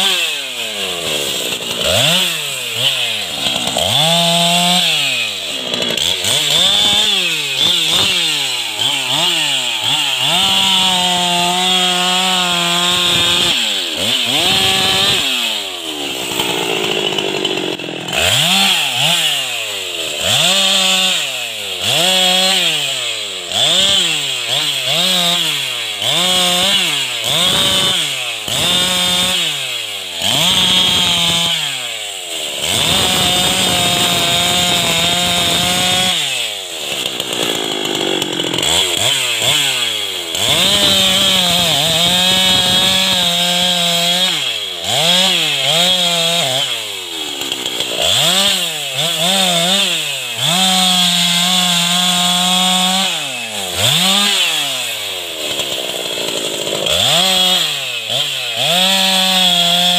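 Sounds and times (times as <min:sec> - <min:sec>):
chainsaw revving cutting log: 0:00.0 - 0:59.9.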